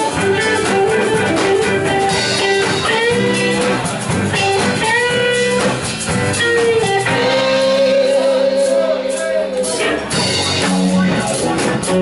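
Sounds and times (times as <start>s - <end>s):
bass guitar: 0.0s - 12.0s
drum kit: 0.0s - 12.0s
electric guitar lead: 0.0s - 12.0s.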